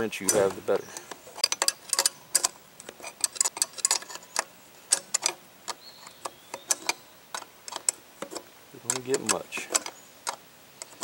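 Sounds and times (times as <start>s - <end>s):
wrench clicking on metal nuts: 0.2s - 11.0s.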